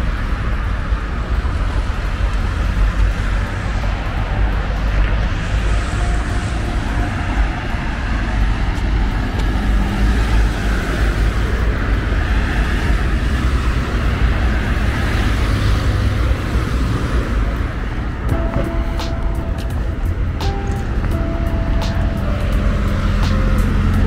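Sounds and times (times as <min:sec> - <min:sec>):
city street traffic rumble: 0:00.0 - 0:24.0.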